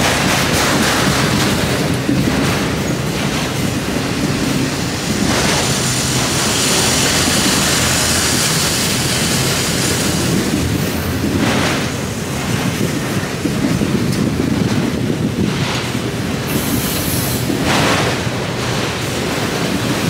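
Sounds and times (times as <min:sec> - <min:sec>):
steel wheels on rails: 0:00.0 - 0:20.0
train low rumble: 0:00.0 - 0:20.0.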